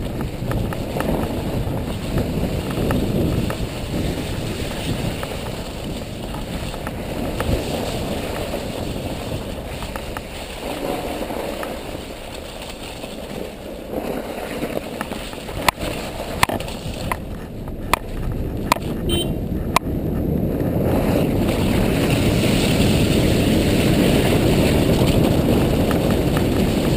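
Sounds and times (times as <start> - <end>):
engine and tyres rumbling: 0.0 - 26.9
wind on microphone: 0.0 - 26.9.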